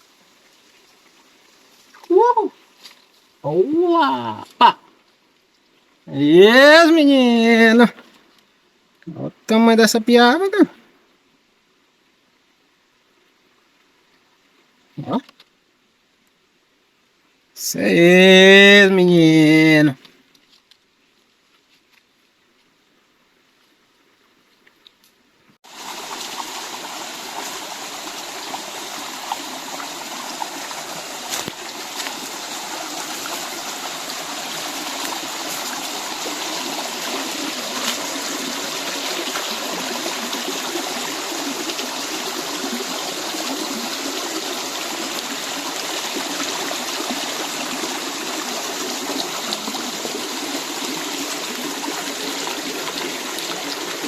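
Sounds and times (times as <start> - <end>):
stream running over stones: 0.0 - 10.7, 17.6 - 22.8, 24.8 - 54.0.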